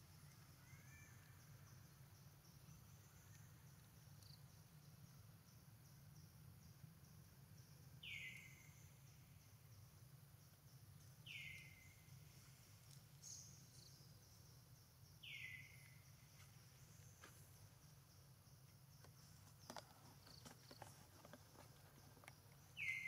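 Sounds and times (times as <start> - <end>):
soft background hiss: 0.0 - 23.0.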